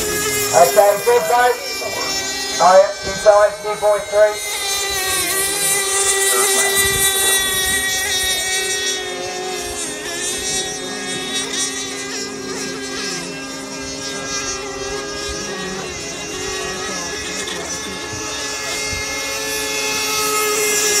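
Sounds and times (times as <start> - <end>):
model boat engine screaming: 0.0 - 21.0.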